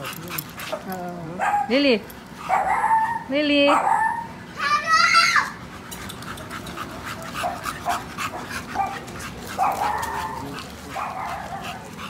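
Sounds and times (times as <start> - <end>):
soft dog vocal sounds: 0.0 - 4.5, 5.5 - 12.0
dogs panting: 0.0 - 4.7, 5.4 - 12.0.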